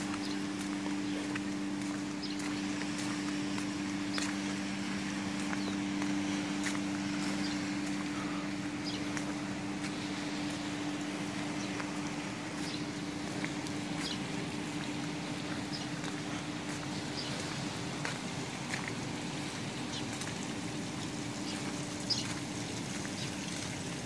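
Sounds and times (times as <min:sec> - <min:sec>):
constant hiss: 0:00.0 - 0:24.0
low machine hum: 0:00.0 - 0:24.0.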